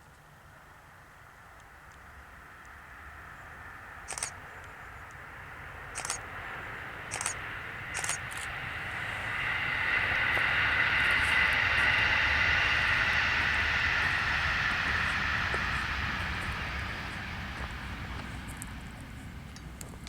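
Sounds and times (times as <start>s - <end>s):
train passing: 0.0s - 20.0s.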